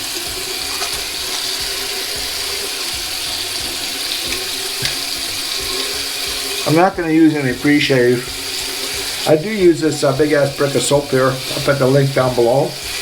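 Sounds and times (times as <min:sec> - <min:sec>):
splashes of face washing: 0:00.0 - 0:13.0
tap water running into sink: 0:00.0 - 0:13.0.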